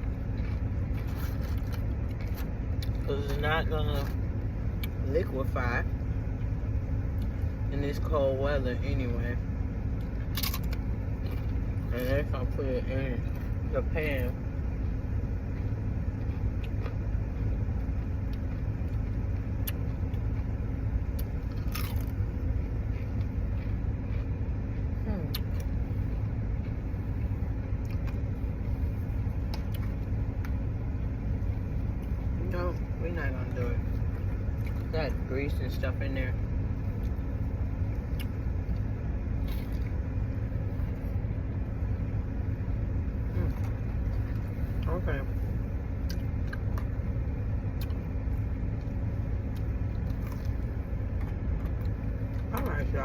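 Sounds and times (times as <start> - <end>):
crunchy crackle: 0.0 - 8.1, 8.8 - 53.0
low rumble: 0.0 - 53.0.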